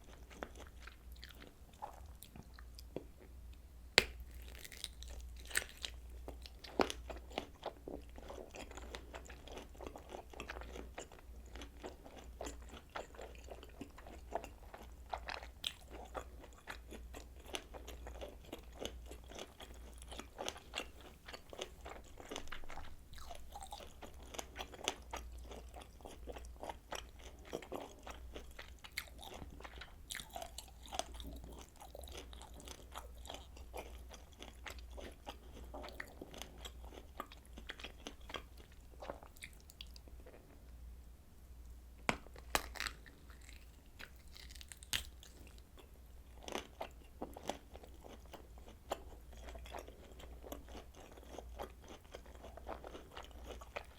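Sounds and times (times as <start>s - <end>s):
chewing sausage: 0.0s - 3.3s, 4.0s - 40.6s, 42.3s - 53.9s.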